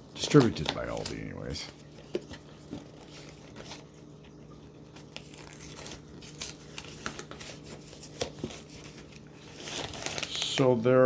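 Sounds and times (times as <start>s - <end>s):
faint steady hum: 0.0s - 11.0s
snack packaging crinkling: 0.0s - 11.0s.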